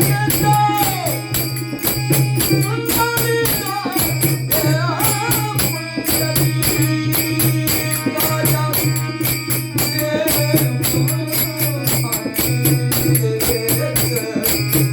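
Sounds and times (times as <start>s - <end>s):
jingling hand percussion: 0.0s - 14.9s.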